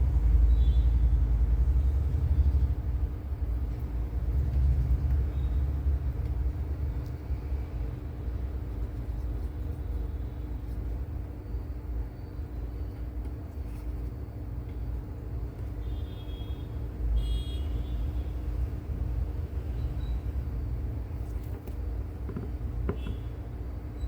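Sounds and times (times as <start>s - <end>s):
faint continuous hum: 0.0s - 24.0s.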